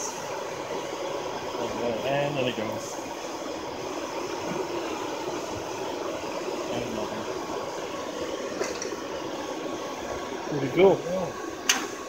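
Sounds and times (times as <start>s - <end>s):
blower and fire rushing hum: 0.0s - 12.0s.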